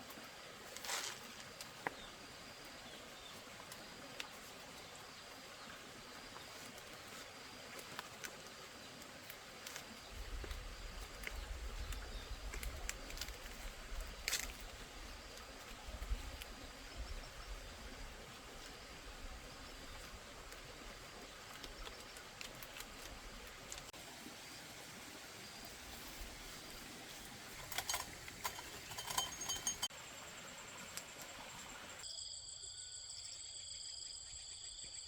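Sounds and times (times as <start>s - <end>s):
faint outdoor ambience: 0.0s - 35.0s.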